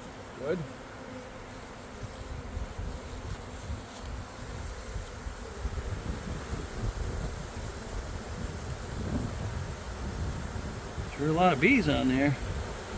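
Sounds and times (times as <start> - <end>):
bees buzzing: 0.0 - 12.9.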